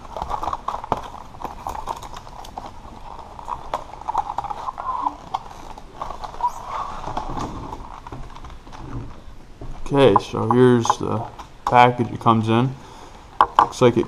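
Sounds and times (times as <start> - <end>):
packaging rustling: 0.0 - 11.7.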